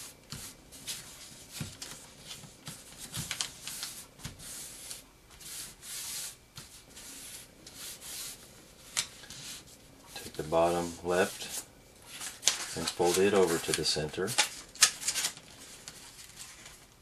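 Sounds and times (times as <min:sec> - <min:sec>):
paper rustling and swishing: 0:00.0 - 0:17.0.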